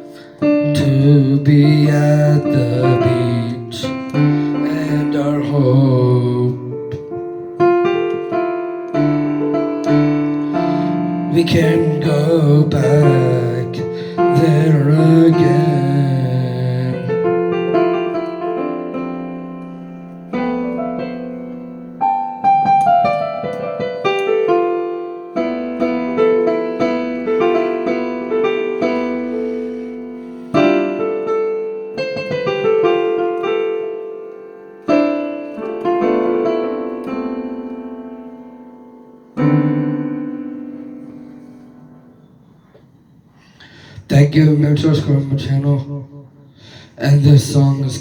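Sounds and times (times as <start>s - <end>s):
solo piano playing: 0.0s - 43.6s.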